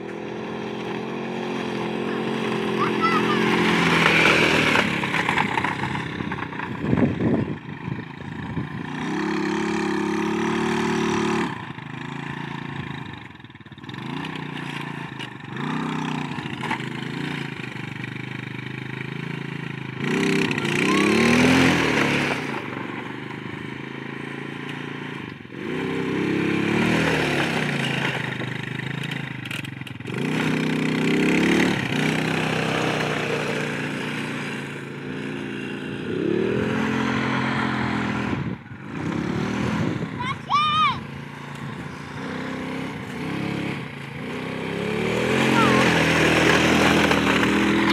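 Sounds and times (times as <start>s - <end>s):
quad bike engine revving: 0.0s - 47.9s.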